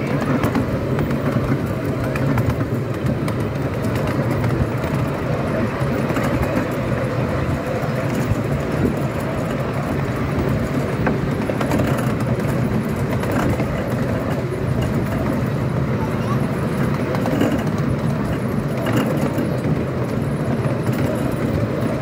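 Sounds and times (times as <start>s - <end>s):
train wheels rumbling on rails: 0.0s - 22.0s
carriage clicks and rattles: 0.2s - 15.6s, 16.6s - 22.0s.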